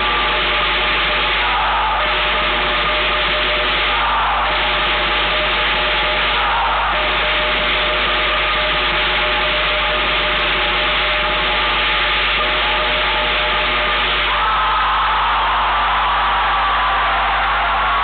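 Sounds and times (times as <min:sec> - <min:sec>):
loud hiss-like noise: 0:00.0 - 0:18.0.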